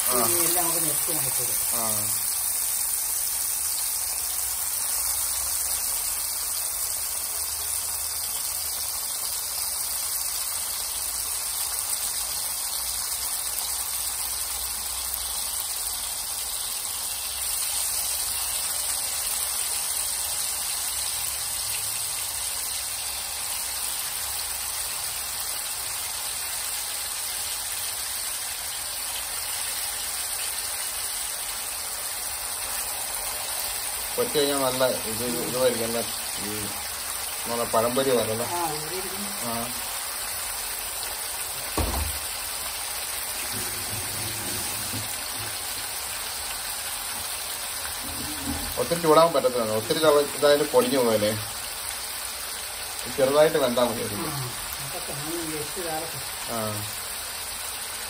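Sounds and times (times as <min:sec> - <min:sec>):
fish frying in oil: 0:00.0 - 0:58.0.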